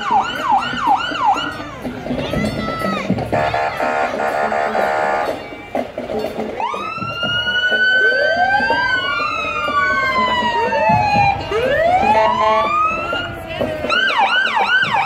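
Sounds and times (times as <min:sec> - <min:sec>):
emergency vehicle sirens wailing: 0:00.0 - 0:15.0.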